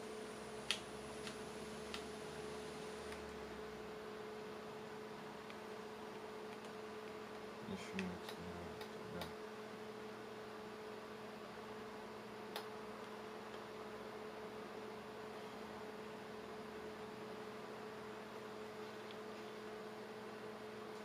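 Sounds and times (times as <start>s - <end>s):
oscilloscope hum and tone: 0.0s - 21.0s.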